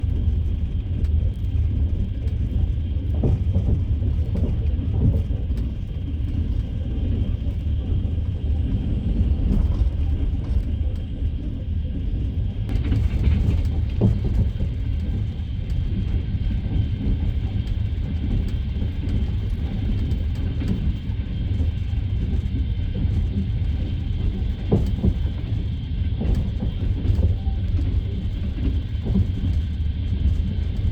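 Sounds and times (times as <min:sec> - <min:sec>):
train rumble: 0:00.0 - 0:30.9
wheels clattering on rails: 0:00.0 - 0:30.9.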